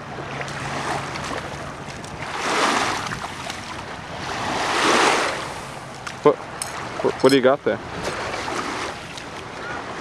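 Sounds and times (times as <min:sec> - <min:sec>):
small waves on sandy shore: 0:00.0 - 0:10.0.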